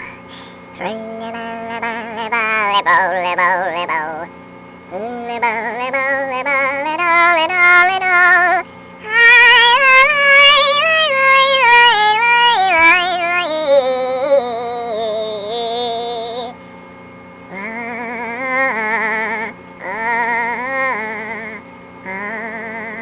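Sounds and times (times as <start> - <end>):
wordless high-pitched singing: 0.8 - 4.3, 4.9 - 16.6, 17.5 - 23.0.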